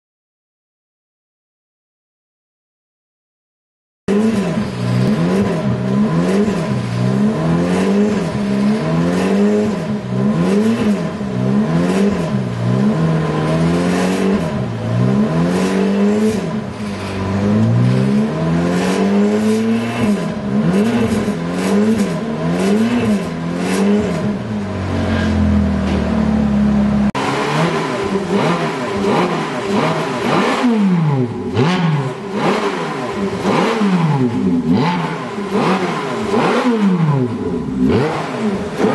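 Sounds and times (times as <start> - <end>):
car engine revving: 4.1 - 38.9.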